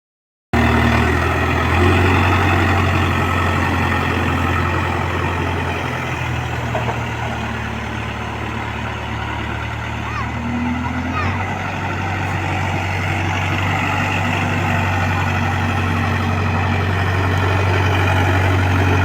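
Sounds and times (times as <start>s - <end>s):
heavy diesel engine running: 0.6s - 19.0s.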